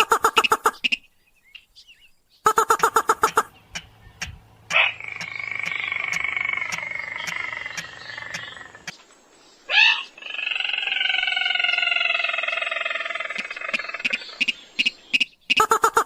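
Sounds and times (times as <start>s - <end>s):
crake calls: 0.0s - 1.7s, 2.4s - 16.0s.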